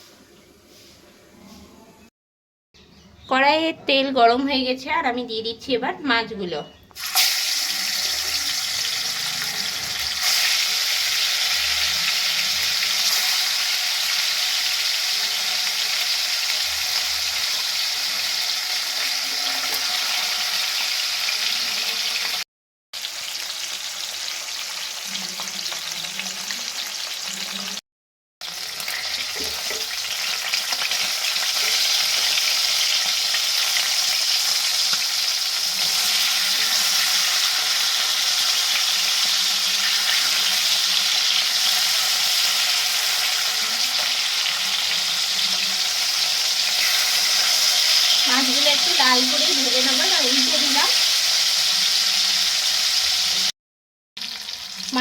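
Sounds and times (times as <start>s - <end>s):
fish frying in oil: 7.0s - 22.4s, 23.0s - 27.8s, 28.4s - 53.5s, 54.2s - 55.0s.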